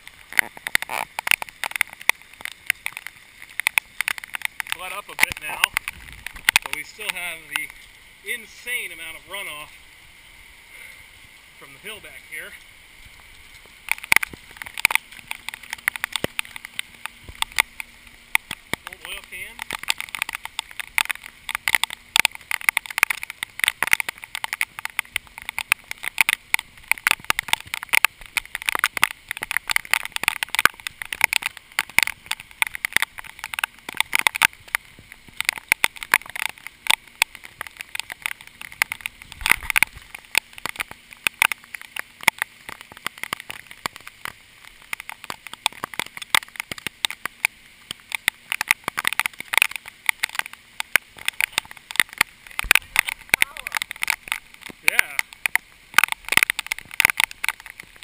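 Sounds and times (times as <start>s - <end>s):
raindrops tapping on camera: 0.0s - 58.0s.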